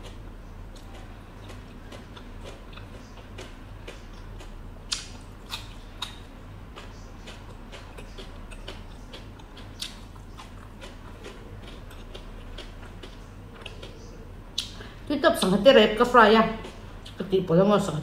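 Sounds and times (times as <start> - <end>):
person crunching crisp vegetables: 0.0 - 14.8.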